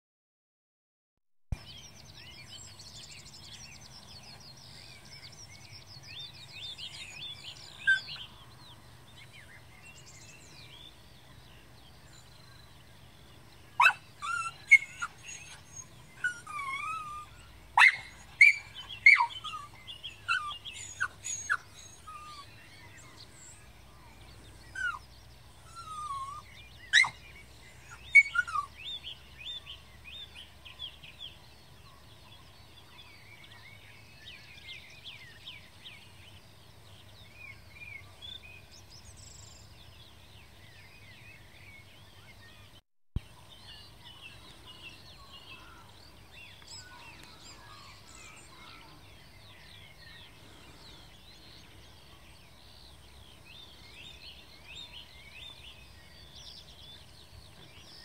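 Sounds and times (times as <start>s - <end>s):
birds twittering trills: 1.6s - 58.0s.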